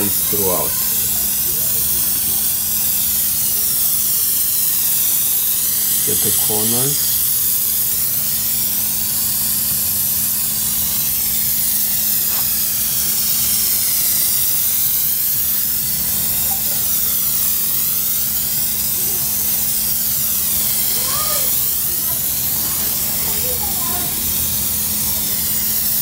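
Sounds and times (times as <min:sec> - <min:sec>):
aerosol can spraying hiss: 0:00.0 - 0:26.0.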